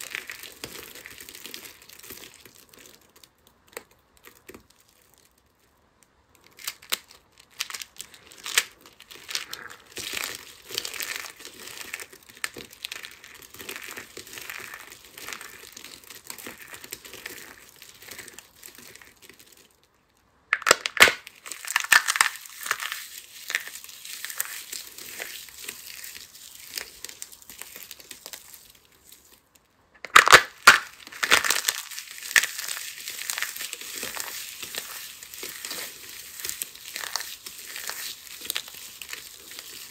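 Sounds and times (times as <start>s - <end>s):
dry soap crunching: 0.0s - 5.7s, 6.3s - 39.9s
soap shells squeezed: 6.4s - 19.9s, 20.5s - 39.9s.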